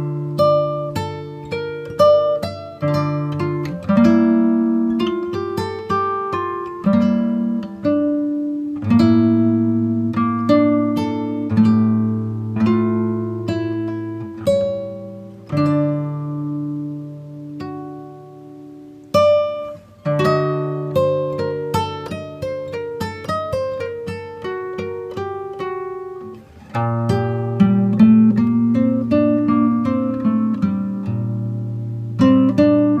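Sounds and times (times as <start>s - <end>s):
acoustic guitar chords: 0.0s - 33.0s.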